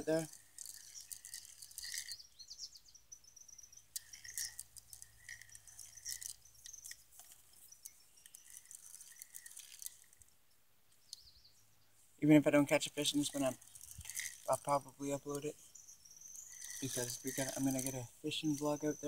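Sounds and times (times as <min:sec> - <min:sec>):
insects ticking: 0:00.0 - 0:11.5, 0:12.8 - 0:19.0
birds chirping and trilling: 0:00.0 - 0:19.0.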